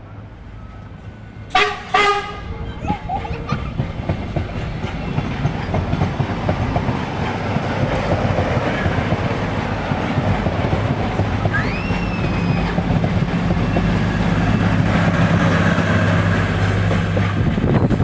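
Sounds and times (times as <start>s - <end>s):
diesel train engine hum: 0.0s - 18.0s
wheels clattering on rails: 2.8s - 18.0s.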